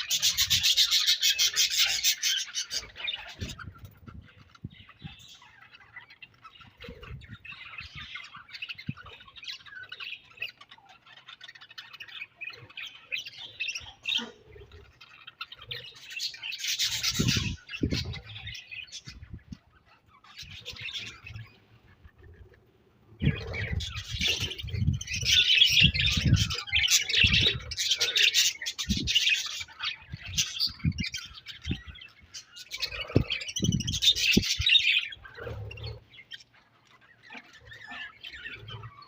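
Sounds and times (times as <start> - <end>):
budgerigars chattering: 0.0 - 39.0.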